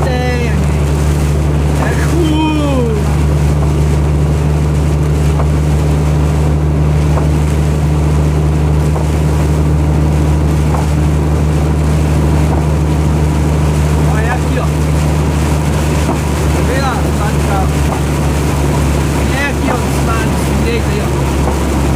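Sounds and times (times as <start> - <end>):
vehicle engine and road drone: 0.0 - 21.9.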